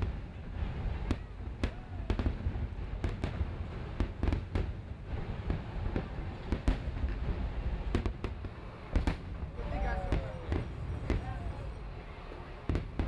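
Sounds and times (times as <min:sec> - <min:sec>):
continuous low rumble: 0:00.0 - 0:13.0
fireworks bangs: 0:00.0 - 0:13.0.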